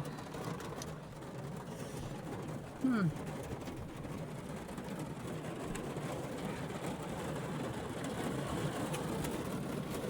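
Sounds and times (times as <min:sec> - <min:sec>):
rain on car roof: 0:00.0 - 0:10.0
raindrop ticks: 0:00.0 - 0:10.0.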